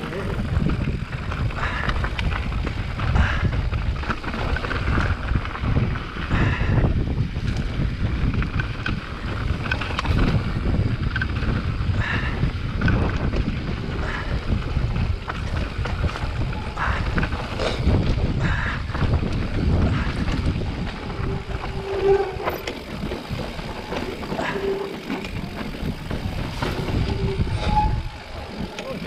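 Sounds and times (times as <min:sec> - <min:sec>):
bike rattling and knocking: 0:00.0 - 0:29.0
bike tyres on dirt trail: 0:00.0 - 0:29.0
wind buffeting microphone: 0:00.0 - 0:29.0.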